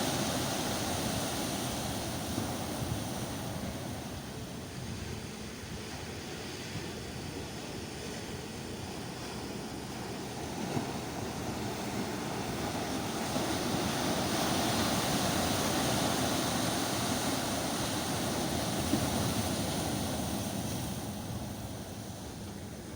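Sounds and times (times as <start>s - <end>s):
sea waves washing in: 0.0s - 22.9s.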